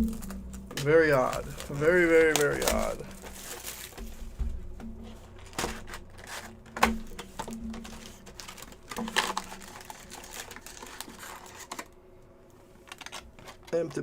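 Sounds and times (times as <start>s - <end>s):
card wrappers rustling: 0.0s - 12.0s, 12.8s - 14.0s.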